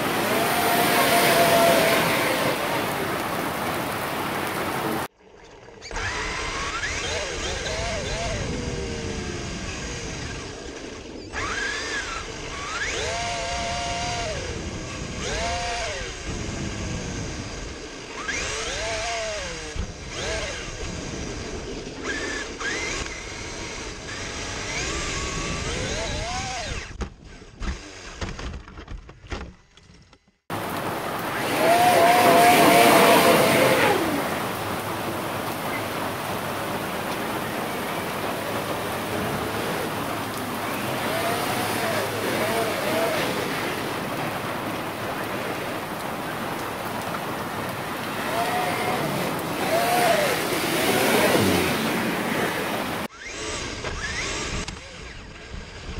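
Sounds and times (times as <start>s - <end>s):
electric rc truck whining: 0.0s - 3.2s, 5.8s - 28.8s, 30.5s - 55.9s.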